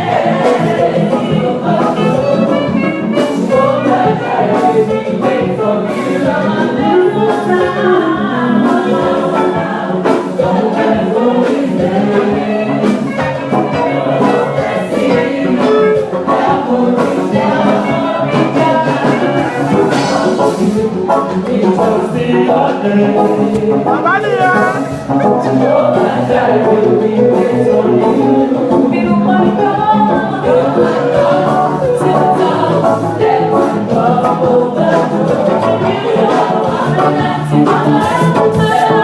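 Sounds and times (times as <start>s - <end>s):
choir singing: 0.0s - 39.0s
instrumental accompaniment: 0.0s - 39.0s.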